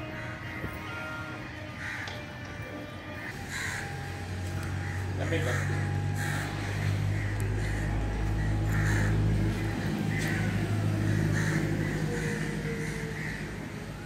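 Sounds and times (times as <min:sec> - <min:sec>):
crows cawing: 0:00.0 - 0:02.4, 0:03.0 - 0:14.0
steady low hum: 0:02.6 - 0:14.0.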